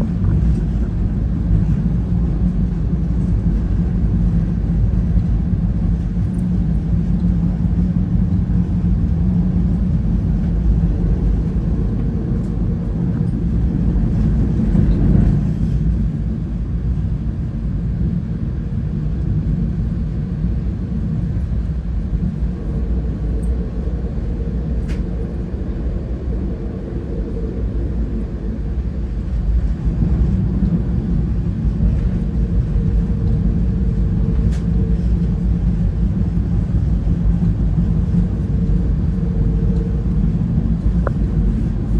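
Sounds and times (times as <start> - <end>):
rail car wheels rumbling: 0.0 - 41.9.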